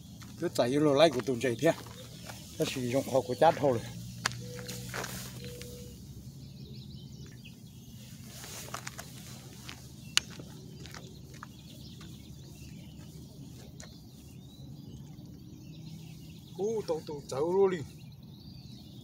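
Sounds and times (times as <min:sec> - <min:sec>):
faint bird chirps: 0:01.7 - 0:19.0.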